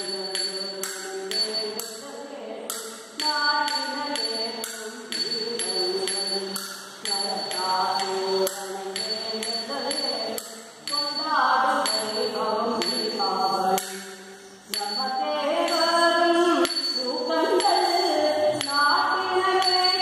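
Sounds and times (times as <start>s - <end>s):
chant-like singing: 0.0s - 20.0s
sharp percussion strikes: 0.0s - 20.0s.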